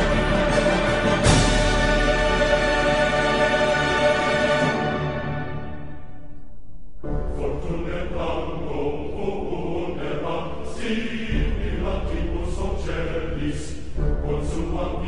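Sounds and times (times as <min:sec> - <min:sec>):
choir chanting: 0:00.0 - 0:06.0, 0:07.2 - 0:15.0.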